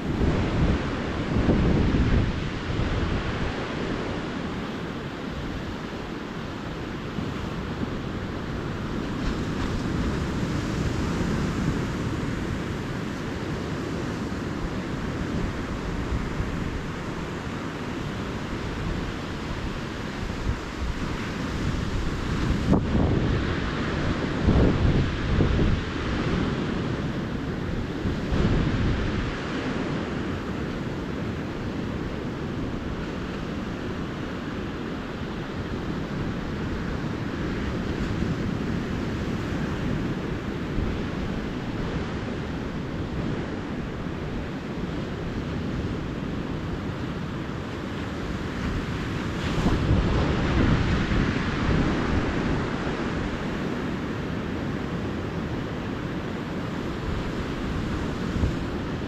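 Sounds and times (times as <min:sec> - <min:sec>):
surf washing onto beach: 0:00.0 - 0:59.0
waves breaking: 0:00.0 - 0:59.0
wind buffeting microphone: 0:00.0 - 0:59.0.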